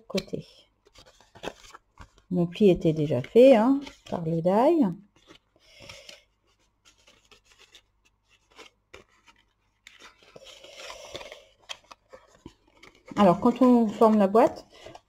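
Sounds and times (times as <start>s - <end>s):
card rustling and scraping: 0.1s - 4.4s, 5.1s - 15.0s.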